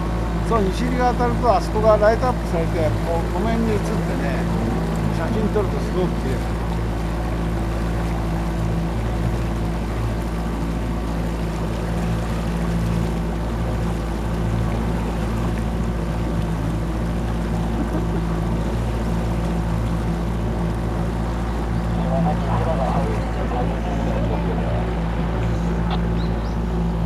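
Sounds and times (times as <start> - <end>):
boat engine droning: 0.0 - 27.0
water and wind rushing: 0.0 - 27.0.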